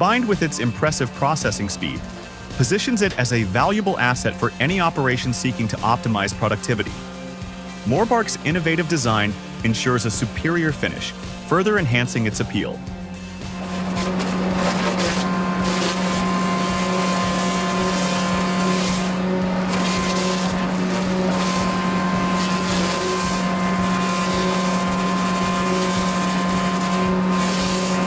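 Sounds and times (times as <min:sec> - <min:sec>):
machinery engine droning: 0:00.0 - 0:28.0.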